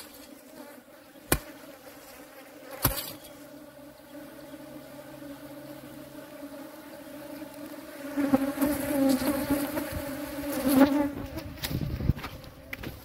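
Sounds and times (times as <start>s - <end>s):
wasps buzzing: 0.0s - 13.0s.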